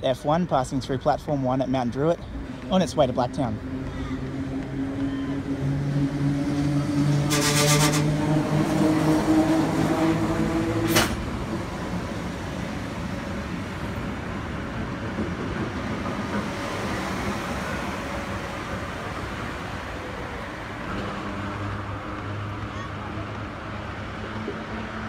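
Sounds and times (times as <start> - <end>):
carriages rumbling on rails: 1.0 - 25.0
loud pitched train drone: 2.3 - 24.2.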